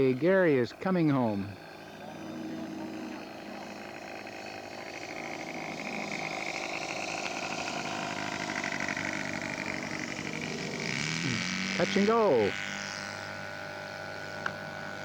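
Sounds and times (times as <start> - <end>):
model aircraft engine running: 0.0 - 15.0.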